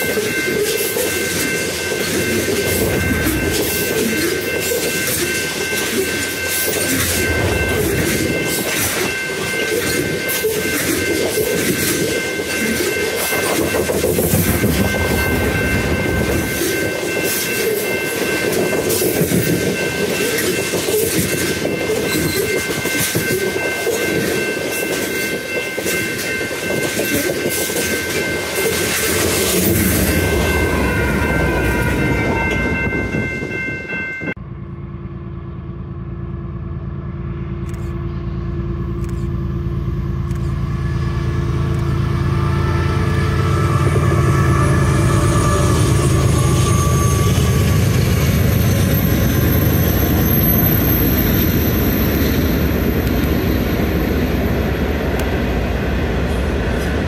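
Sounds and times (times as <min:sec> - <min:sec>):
high-pitched ringing tone: 0:00.0 - 0:54.3
freight train rumbling: 0:00.0 - 0:57.0.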